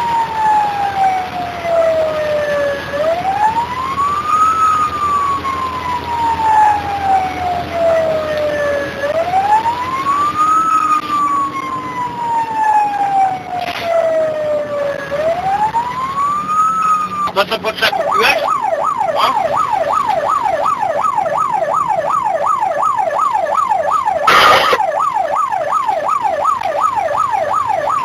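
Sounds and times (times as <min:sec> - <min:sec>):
engine and road noise: 0:00.0 - 0:28.0
fire engine siren wailing: 0:00.0 - 0:28.0.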